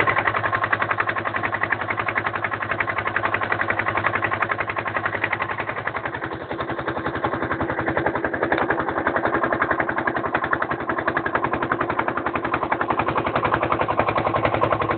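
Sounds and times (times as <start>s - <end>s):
motorboat engine chugging: 0.0s - 14.9s.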